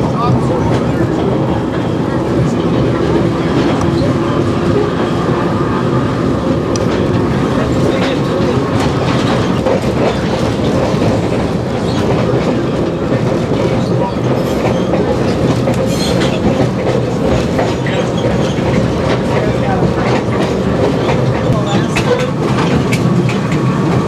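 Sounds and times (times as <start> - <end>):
rumble of wheels on track: 0.0 - 24.0.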